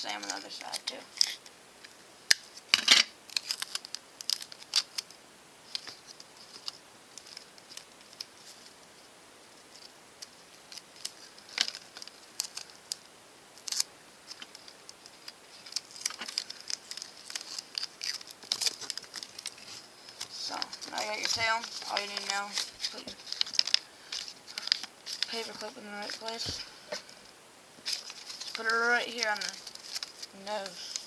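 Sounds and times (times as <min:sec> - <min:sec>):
paper and tape crinkling: 0:00.0 - 0:27.2, 0:27.8 - 0:31.0.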